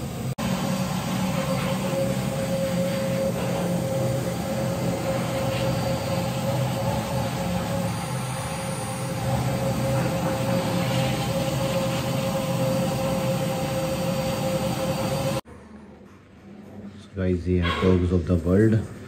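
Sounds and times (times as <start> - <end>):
blow dryer running: 0.0 - 15.4.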